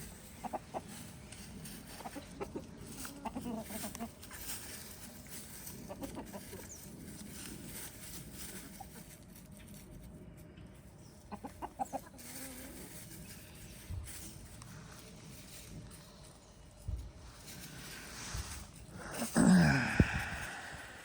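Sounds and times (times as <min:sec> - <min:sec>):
chickens clucking: 0:00.0 - 0:18.8.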